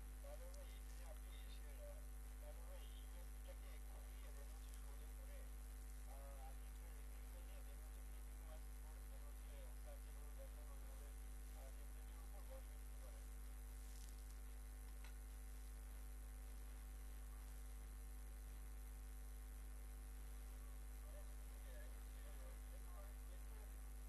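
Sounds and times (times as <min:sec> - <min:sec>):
low electrical mains hum: 0:00.0 - 0:24.0.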